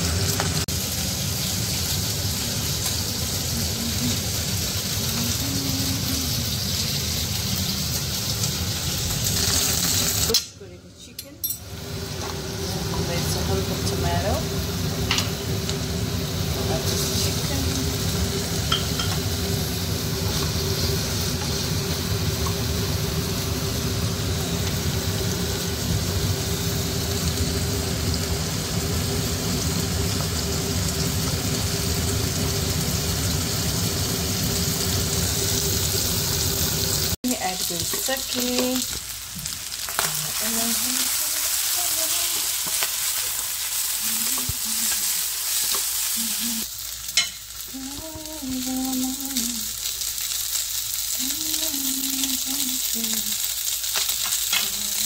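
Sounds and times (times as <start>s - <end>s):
rice sizzling in a hot pan: 0.0s - 10.5s, 11.6s - 55.0s.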